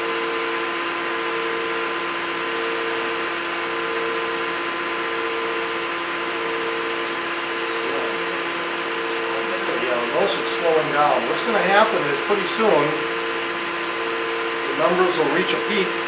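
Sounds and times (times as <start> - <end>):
testing machine humming with hiss: 0.0 - 16.0.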